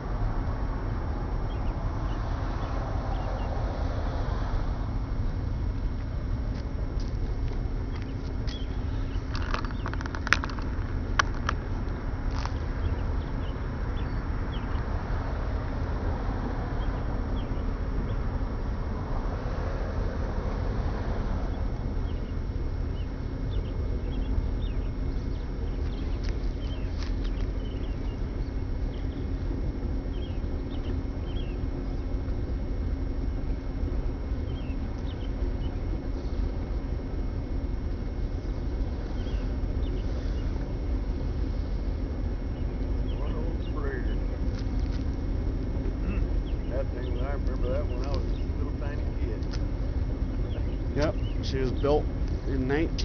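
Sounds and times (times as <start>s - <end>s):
faint steady hum: 0.0s - 53.0s
ship engine low rumble: 0.0s - 53.0s
birds chirping faintly: 1.4s - 3.6s, 5.7s - 15.0s, 16.6s - 18.4s, 21.5s - 53.0s.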